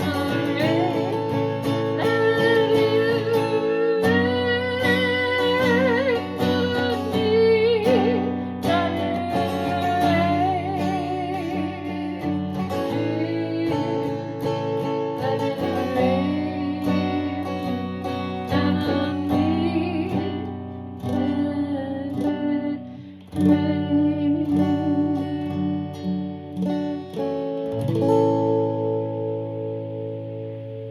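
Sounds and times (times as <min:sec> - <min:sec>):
acoustic guitar music: 0:00.0 - 0:30.9.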